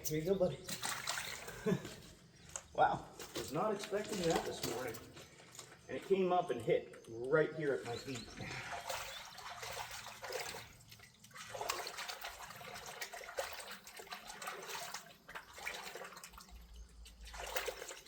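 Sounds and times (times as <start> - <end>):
river water trickling and splashing: 0.0 - 18.0.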